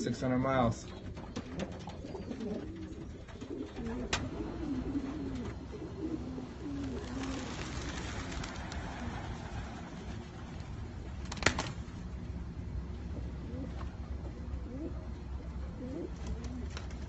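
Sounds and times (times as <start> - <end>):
pigeons cooing: 0.8 - 17.0.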